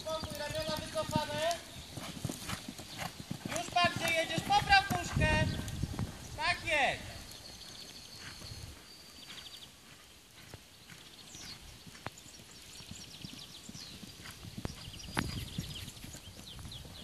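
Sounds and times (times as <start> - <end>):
horse hoofbeats on sand: 0.0 - 17.0.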